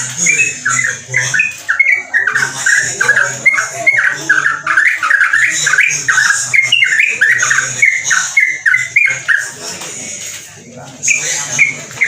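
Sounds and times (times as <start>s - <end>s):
bird singing rapid chirps: 0.0s - 9.6s, 11.0s - 12.0s.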